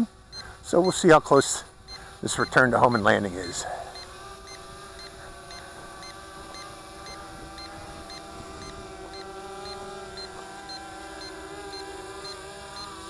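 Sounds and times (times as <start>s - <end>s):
drone propellers humming: 0.0s - 13.0s
short high beeps: 1.9s - 12.9s.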